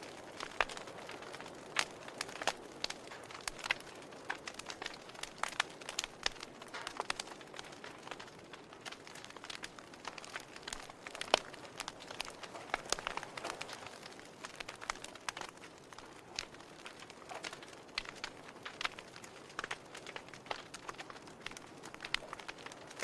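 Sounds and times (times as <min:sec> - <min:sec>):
soft steady hiss: 0:00.0 - 0:23.0
wood fire crackling and popping: 0:00.0 - 0:23.0.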